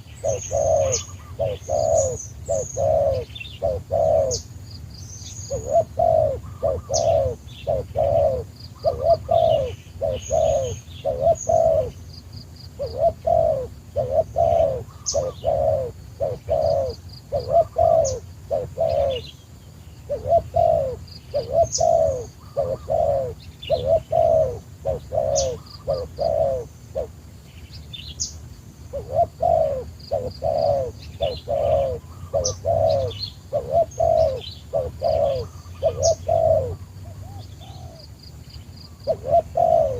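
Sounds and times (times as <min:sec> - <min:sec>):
dove cooing: 0:00.0 - 0:19.4, 0:20.0 - 0:27.3, 0:28.2 - 0:38.2, 0:38.9 - 0:39.9
small birds chirping: 0:00.0 - 0:39.9.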